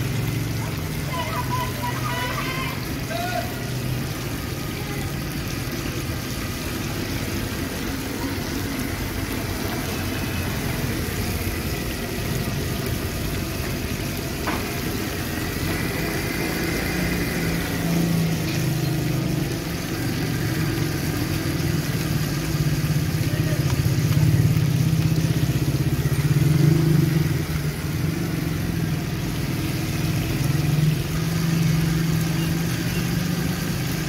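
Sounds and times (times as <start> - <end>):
street noise: 0.0 - 34.0.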